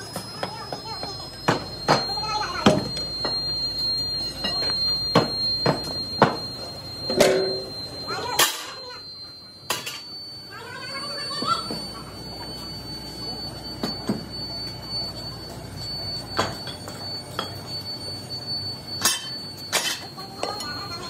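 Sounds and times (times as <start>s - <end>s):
thin high-pitched whine: 0.0s - 21.0s.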